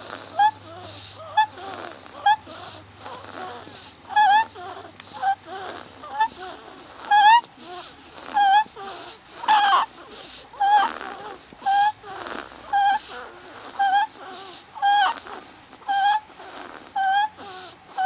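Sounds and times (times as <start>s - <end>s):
baby squeaking with breaths: 0.3s - 18.0s.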